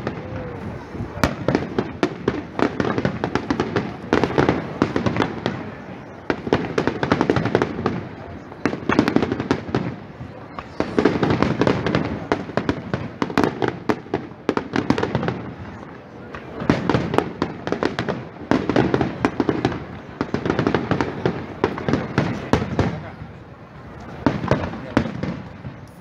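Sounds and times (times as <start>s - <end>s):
fireworks popping and crackling: 0.0s - 26.0s.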